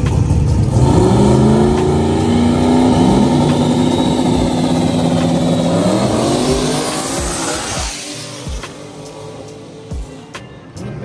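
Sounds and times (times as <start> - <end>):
race car engine at full throttle: 0.0 - 10.4.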